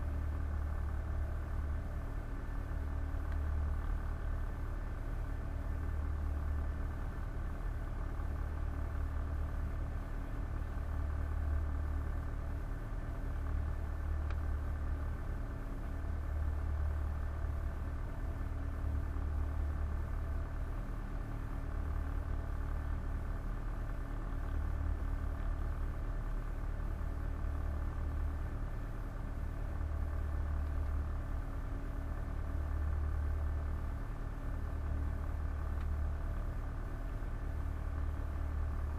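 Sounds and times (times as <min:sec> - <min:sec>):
boat engine drone: 0:00.0 - 0:38.9.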